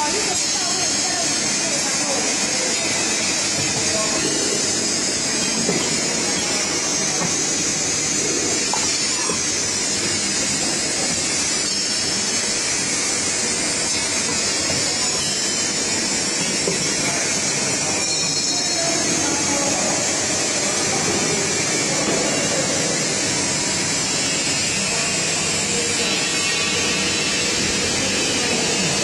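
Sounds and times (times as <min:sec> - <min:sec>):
printing machine whirring: 0:00.0 - 0:29.0.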